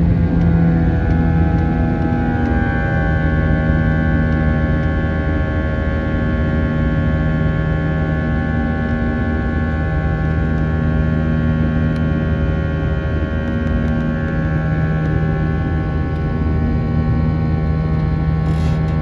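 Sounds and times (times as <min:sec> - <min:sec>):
airliner cabin rumble and hum: 0:00.0 - 0:19.0.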